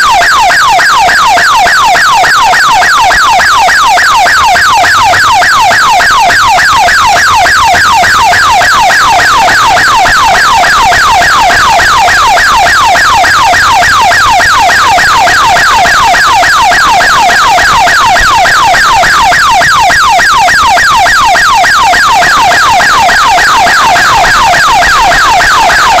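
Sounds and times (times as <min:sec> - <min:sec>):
electronic siren fast cycling: 0:00.0 - 0:26.0.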